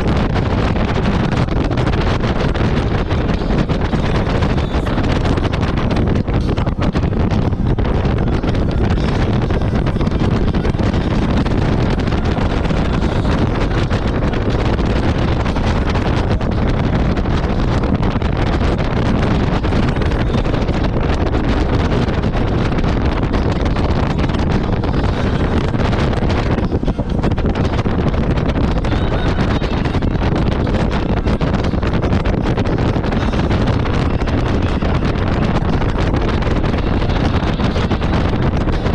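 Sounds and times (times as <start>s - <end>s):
jet ski engine running: 0.0s - 38.9s
wind noise on microphone: 0.0s - 38.9s.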